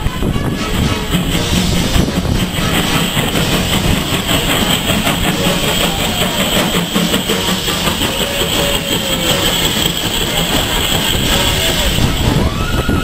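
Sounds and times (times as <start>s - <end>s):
rumble of train wheels on rail: 0.0s - 13.0s.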